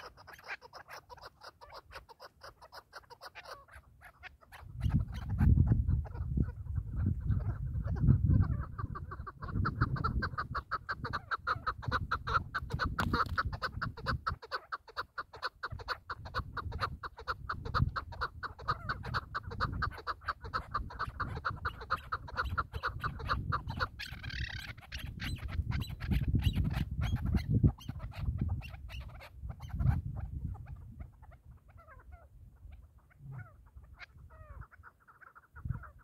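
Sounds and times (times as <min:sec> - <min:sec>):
partridges calling: 0:00.0 - 0:36.0
wind buffeting microphone: 0:04.5 - 0:14.4, 0:15.7 - 0:34.8, 0:35.5 - 0:36.0.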